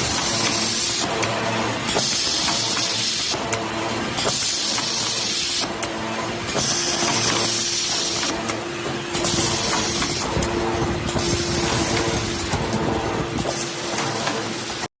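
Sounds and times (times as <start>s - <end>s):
machine humming: 0.0s - 14.9s.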